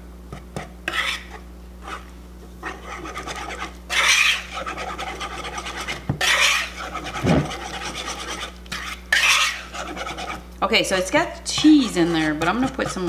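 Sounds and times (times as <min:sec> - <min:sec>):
whisk scraping and clicking bowl: 0:00.3 - 0:10.5, 0:11.1 - 0:13.0.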